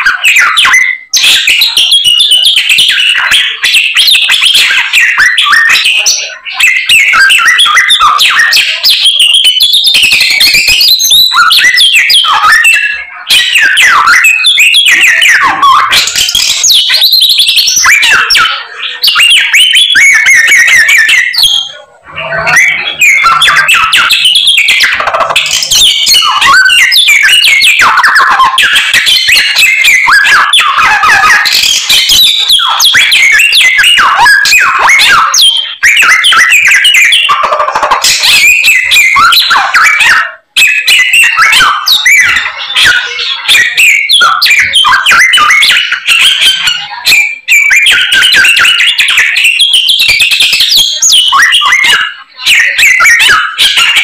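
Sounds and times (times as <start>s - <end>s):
songbird whistling and warbling: 0.0s - 54.0s.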